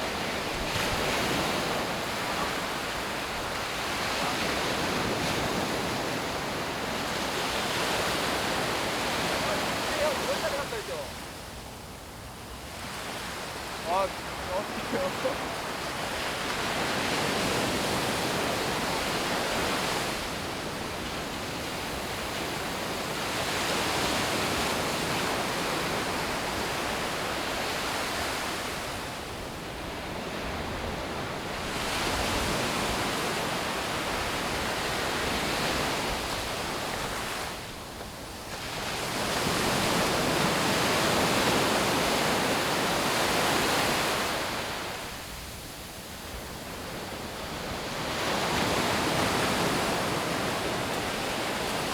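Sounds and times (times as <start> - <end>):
sea waves breaking: 0.0 - 51.9.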